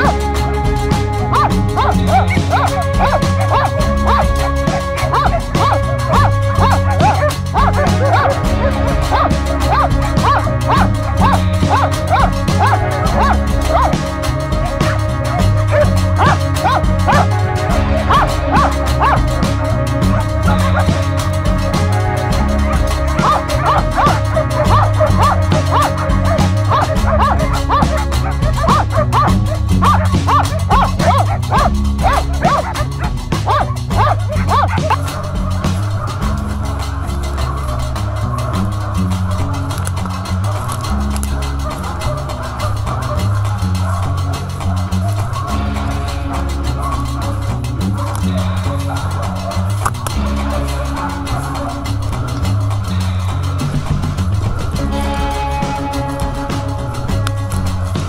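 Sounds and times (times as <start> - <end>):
background music with low notes: 0.0 - 58.0
dogs barking: 0.0 - 58.0.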